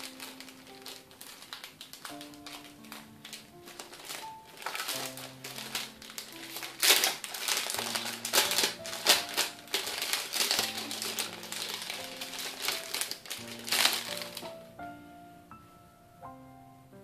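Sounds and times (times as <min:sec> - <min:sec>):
plastic bag crinkling: 0:00.0 - 0:14.8
background music with low notes: 0:00.0 - 0:17.0.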